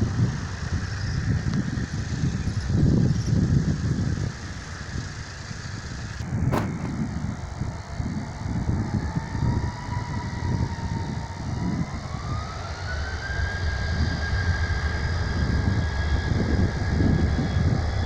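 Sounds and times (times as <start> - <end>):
jet engines spooling up: 0.0 - 18.0
low engine rumble: 0.0 - 18.0.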